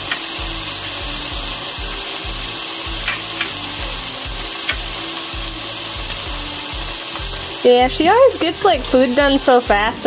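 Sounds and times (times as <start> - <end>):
filling sizzling in a frying pan: 0.0 - 10.0.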